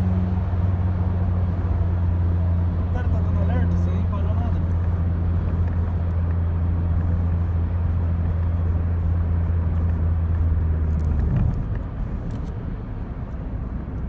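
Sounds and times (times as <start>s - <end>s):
car engine drone: 0.0s - 14.0s
road and tyre noise: 0.0s - 14.0s.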